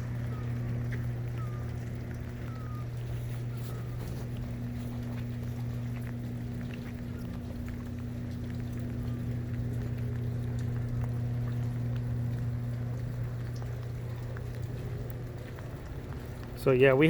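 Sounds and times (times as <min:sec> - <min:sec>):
low machine hum: 0:00.0 - 0:17.0
small ticks: 0:00.0 - 0:17.0.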